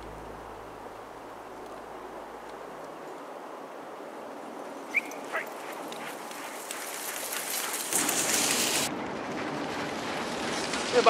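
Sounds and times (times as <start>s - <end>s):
paws and sled runners on snow: 0.9s - 11.0s.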